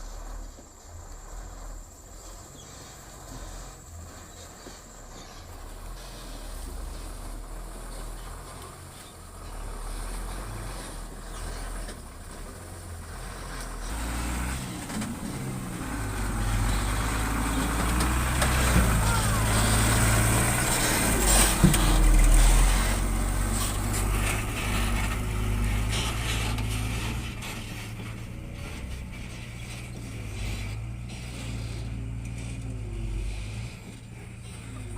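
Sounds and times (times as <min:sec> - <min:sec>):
diesel truck engine under load: 0:00.0 - 0:34.9.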